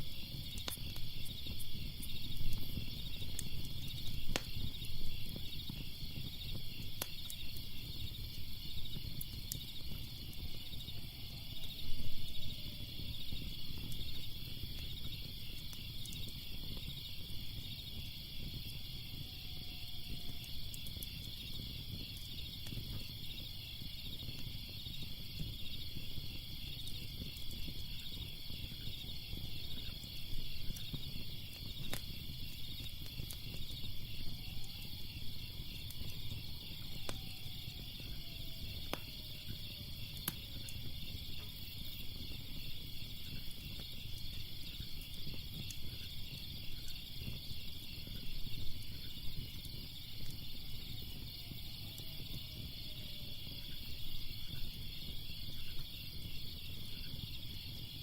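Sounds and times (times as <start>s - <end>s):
fire crackling and popping: 0.0s - 58.0s
insects chirring: 0.0s - 58.0s.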